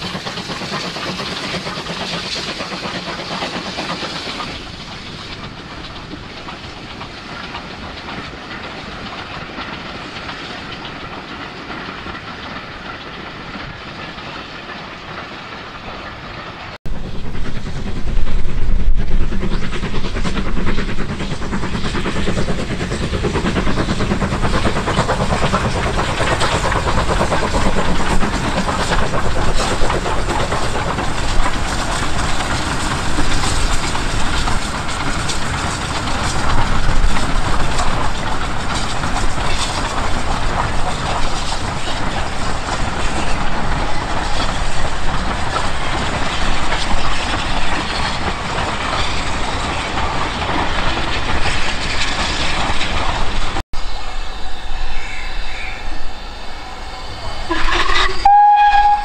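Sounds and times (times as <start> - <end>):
train in motion: 0.0 - 59.0.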